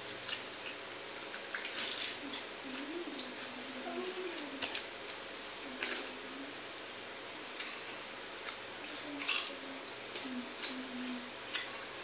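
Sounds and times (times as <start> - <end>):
chewing and slurping: 0.0 - 12.0
hands squishing wet rice: 0.0 - 12.0.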